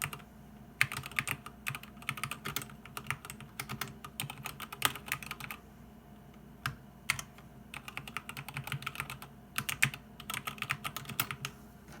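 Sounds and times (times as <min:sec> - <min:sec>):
mechanical keyboard typing: 0:00.0 - 0:00.2, 0:00.8 - 0:05.6, 0:06.6 - 0:11.5.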